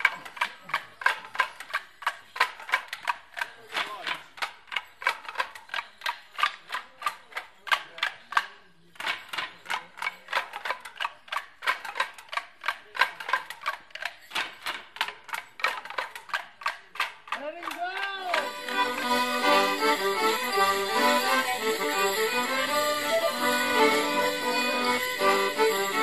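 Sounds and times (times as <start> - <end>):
wooden sticks clacking together: 0.0 - 26.0.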